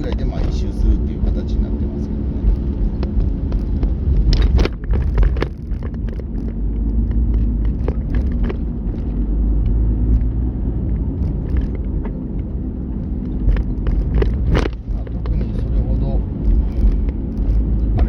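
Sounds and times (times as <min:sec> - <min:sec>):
car engine hum: 0:00.0 - 0:18.0
low road rumble: 0:00.0 - 0:18.0
scattered ticks: 0:02.4 - 0:18.0
sharp knocks and clatters: 0:02.4 - 0:18.0.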